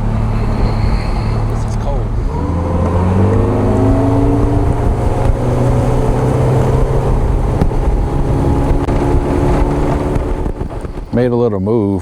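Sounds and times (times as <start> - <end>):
outboard motor running: 0.0 - 11.3.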